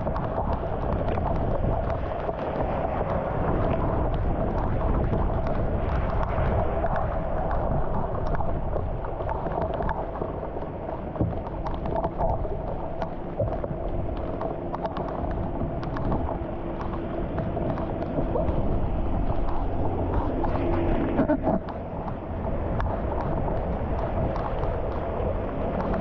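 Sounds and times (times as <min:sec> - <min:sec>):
rain falling on flooded street: 0:00.0 - 0:26.0
wind rumbling on microphone: 0:00.0 - 0:26.0.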